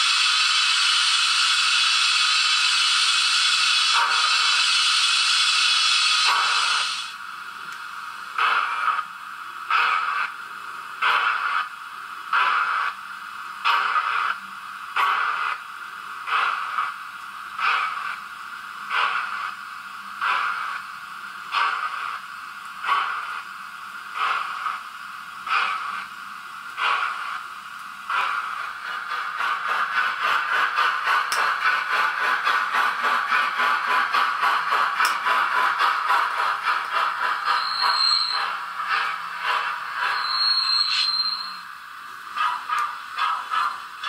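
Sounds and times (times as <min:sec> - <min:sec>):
steam locomotive chuffing: 0:00.0 - 0:44.0.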